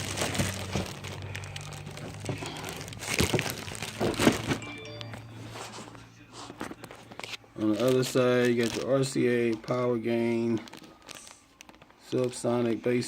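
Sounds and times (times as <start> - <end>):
faint background music: 0.0 - 13.0
plastic bag crinkling: 0.0 - 13.0.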